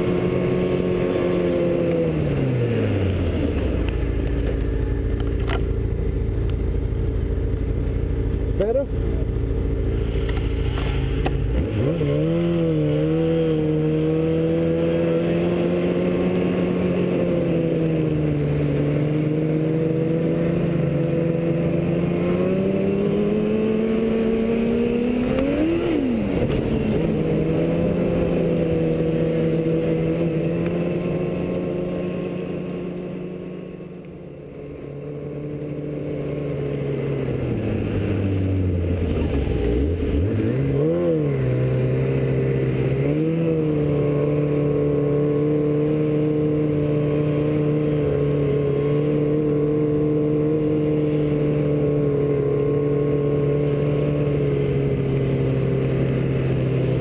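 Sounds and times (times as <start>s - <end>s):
snowmobile engine revving: 0.0s - 4.7s, 6.8s - 57.0s.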